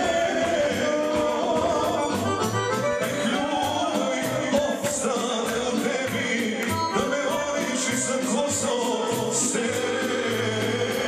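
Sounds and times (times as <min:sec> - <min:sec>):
accordion melody: 0:00.0 - 0:11.0
steady drum beat: 0:00.0 - 0:11.0.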